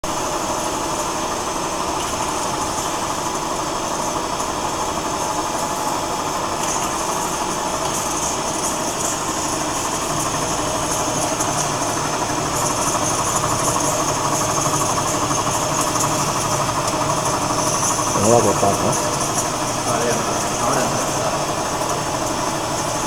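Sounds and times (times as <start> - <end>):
saw machine hum and hiss: 0.2 - 23.0.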